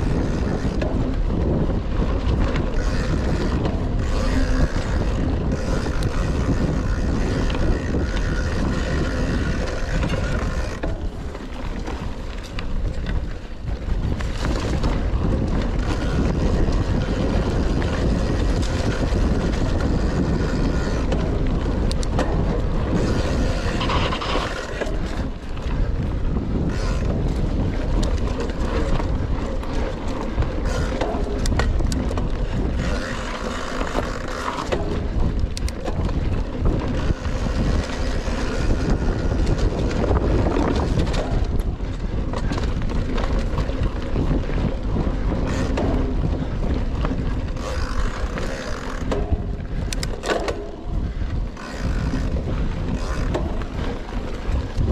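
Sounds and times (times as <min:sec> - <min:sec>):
bike rattling and knocking: 0:00.0 - 0:54.9
tyre noise on dirt: 0:00.0 - 0:54.9
wind rumble on microphone: 0:00.0 - 0:54.9.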